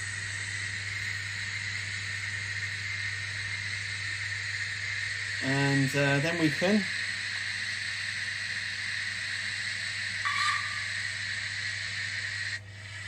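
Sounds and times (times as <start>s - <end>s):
model locomotive steam hiss: 0.0s - 13.0s
steady low hum: 0.0s - 13.0s.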